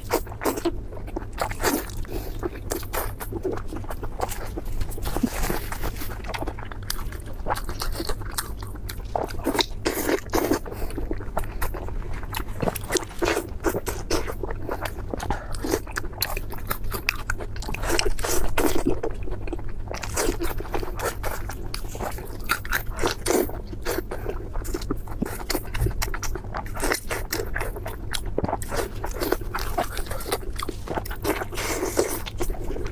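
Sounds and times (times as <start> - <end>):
person chewing crunchy food: 0.0 - 32.9.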